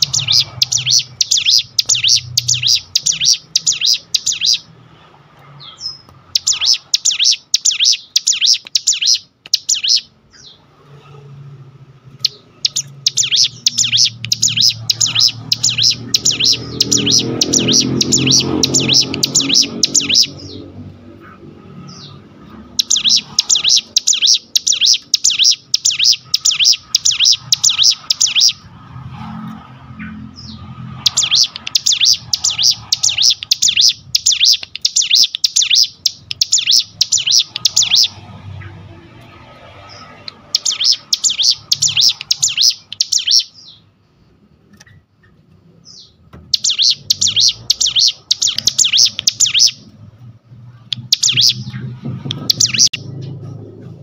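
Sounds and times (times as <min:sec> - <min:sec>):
bird singing high repeated notes: 0:00.0 - 0:04.8, 0:05.6 - 0:10.6, 0:12.1 - 0:28.7, 0:30.0 - 0:38.7, 0:39.4 - 0:43.8, 0:45.8 - 0:49.9, 0:50.8 - 0:53.4.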